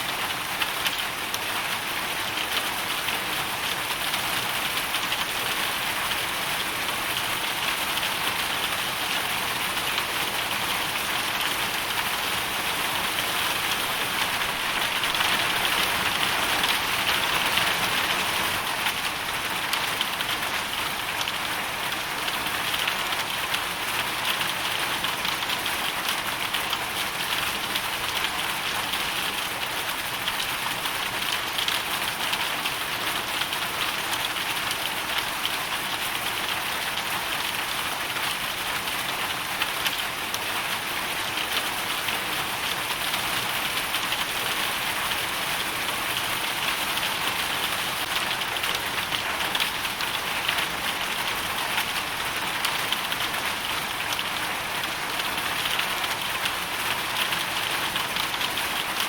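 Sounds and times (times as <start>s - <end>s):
hail and rain on hard surfaces: 0.0s - 59.0s.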